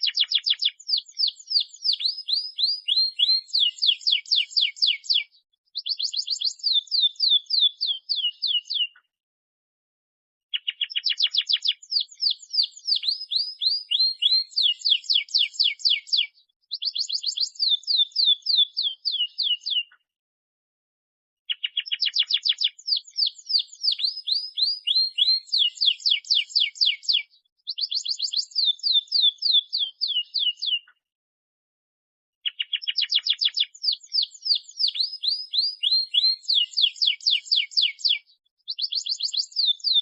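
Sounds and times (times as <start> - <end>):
canary singing trills: 0.0 - 9.0, 10.5 - 20.0, 21.5 - 31.0, 32.4 - 40.0.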